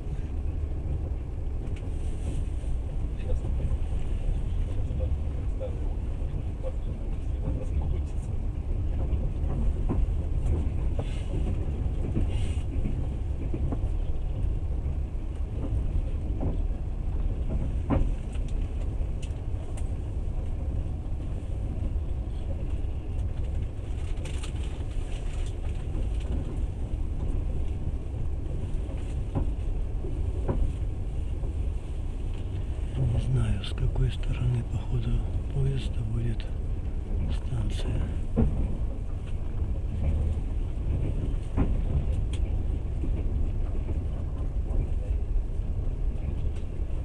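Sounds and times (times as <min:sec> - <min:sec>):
train running rumble: 0:00.0 - 0:47.0.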